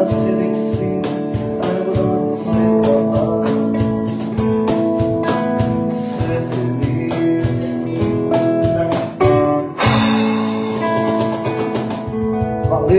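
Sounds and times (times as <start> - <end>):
acoustic guitar strumming: 0.0 - 12.9.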